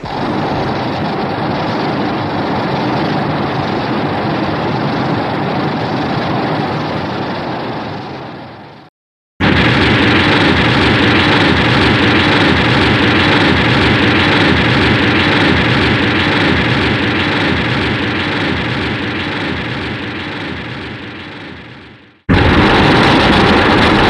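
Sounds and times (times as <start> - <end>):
loud rushing blast: 0.0 - 8.8, 9.4 - 24.0.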